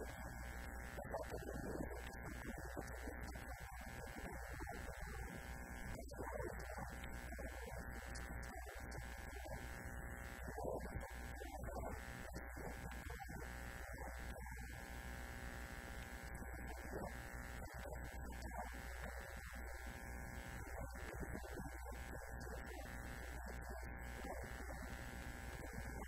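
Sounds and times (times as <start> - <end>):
electrical hum and buzz: 0.0 - 26.0.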